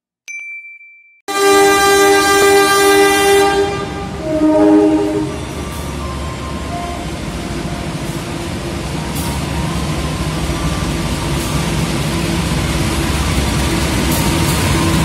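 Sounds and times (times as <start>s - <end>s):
diesel locomotive engine rumble: 1.5s - 15.0s.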